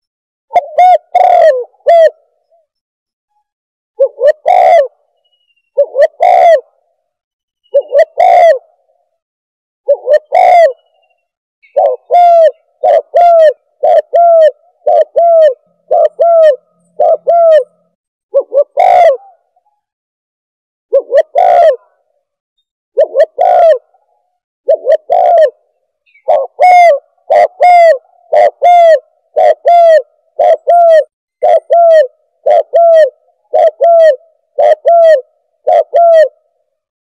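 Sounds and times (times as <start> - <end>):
dove cooing: 0.5 - 2.7, 4.0 - 5.1, 5.8 - 6.9, 7.7 - 8.9, 9.8 - 19.9, 20.9 - 22.1, 23.0 - 36.5.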